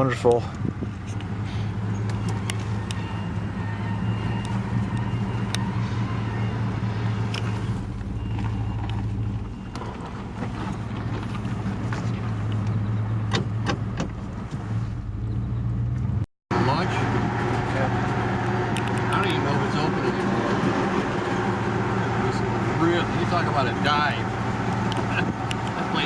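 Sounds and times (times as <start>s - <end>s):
car engine and tyres droning: 0.0s - 26.0s.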